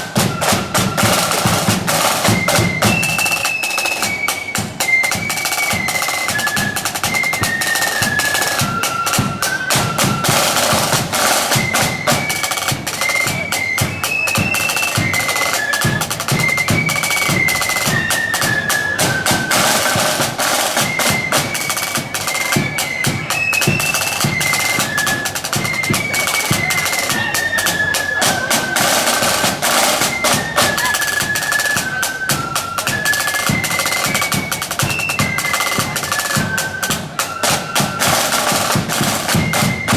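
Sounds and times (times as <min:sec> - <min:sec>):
high-pitched wind melody: 0:00.0 - 0:39.9
rapid snare drumming: 0:00.0 - 0:39.9.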